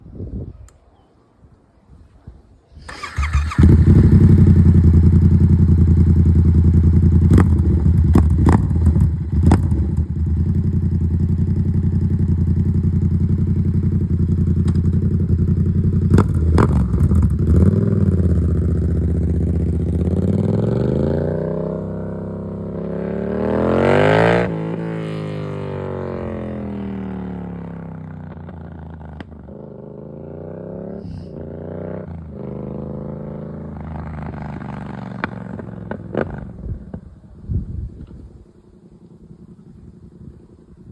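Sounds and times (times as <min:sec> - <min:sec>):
motorcycle engine starting and idling: 0:02.7 - 0:40.9
motorcycle engine revving: 0:02.8 - 0:40.9.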